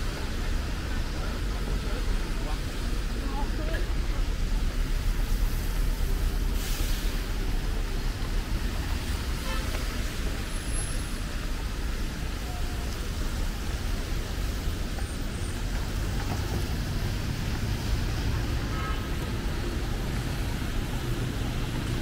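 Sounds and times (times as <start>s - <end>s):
street traffic passing: 0.0s - 22.0s.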